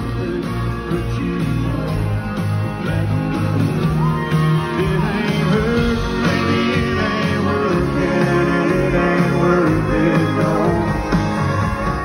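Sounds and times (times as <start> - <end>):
country-rock band playing: 0.0 - 12.0
sliding lead melody: 0.0 - 12.0.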